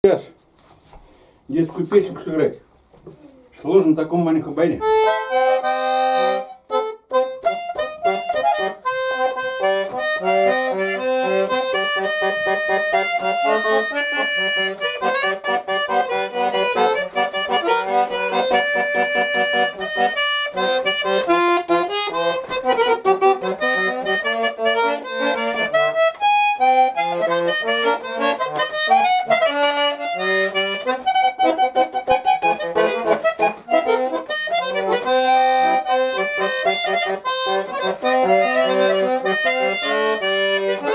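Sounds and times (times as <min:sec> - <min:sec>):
button accordion playing: 0:04.3 - 0:40.9.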